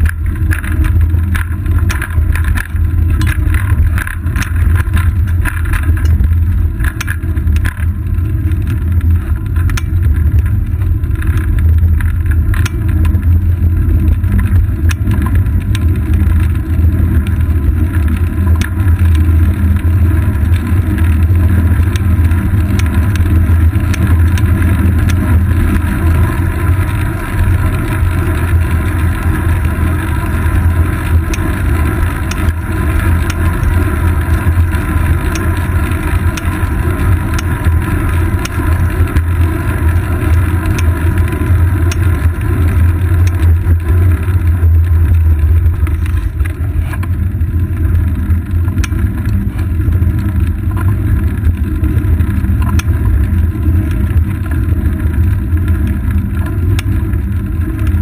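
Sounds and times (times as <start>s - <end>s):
bicycle clicks and rattles: 0.0s - 58.0s
wind and road rumble: 0.0s - 58.0s.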